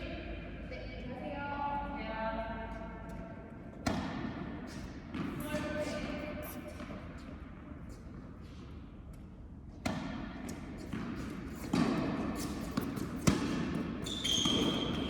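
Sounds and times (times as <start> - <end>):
tennis balls knocked and bouncing: 2.7 - 15.0.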